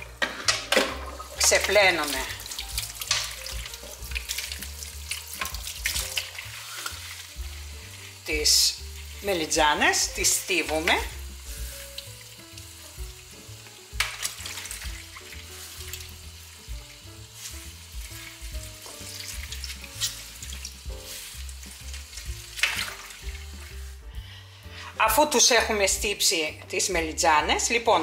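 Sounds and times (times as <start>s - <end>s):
water splashing and dripping: 0.0s - 24.0s
soft background music: 0.0s - 28.0s.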